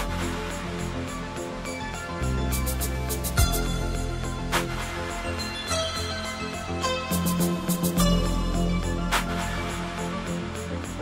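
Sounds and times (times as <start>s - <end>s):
background music with drum hits: 0.0s - 5.9s, 6.8s - 11.0s.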